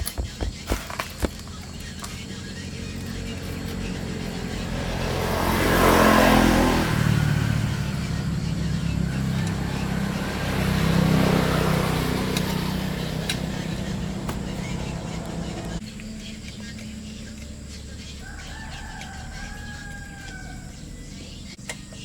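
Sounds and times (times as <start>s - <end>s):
small generator engine running: 0.0s - 22.0s.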